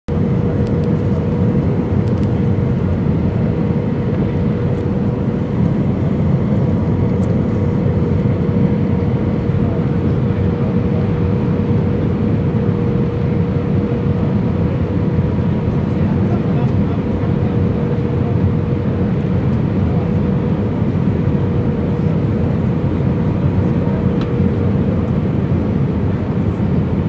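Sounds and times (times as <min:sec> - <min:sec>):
airflow and engine roar: 0:00.1 - 0:27.0
constant cabin hum: 0:00.1 - 0:27.0.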